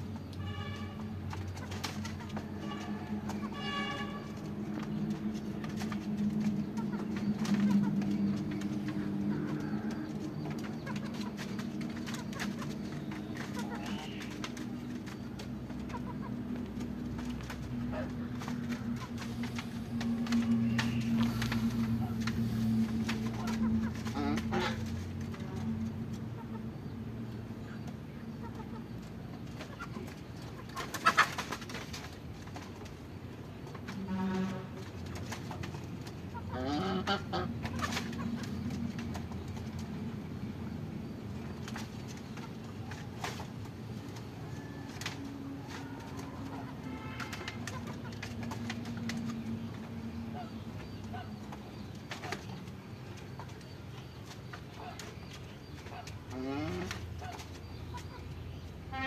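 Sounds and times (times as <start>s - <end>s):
farmyard birds calling: 0.0s - 59.0s.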